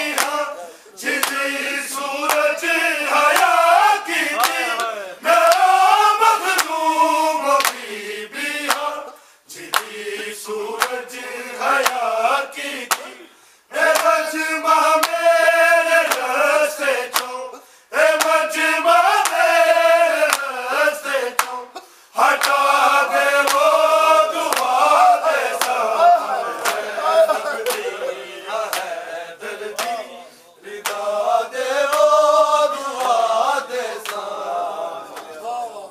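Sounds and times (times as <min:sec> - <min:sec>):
men chanting a lament: 0:00.0 - 0:35.9.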